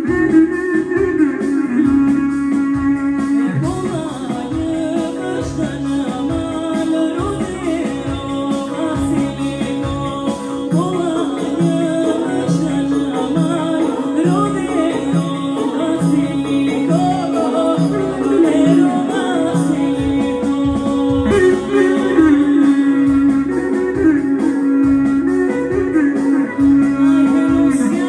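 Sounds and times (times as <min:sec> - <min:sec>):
live band playing folk dance music: 0:00.0 - 0:28.0.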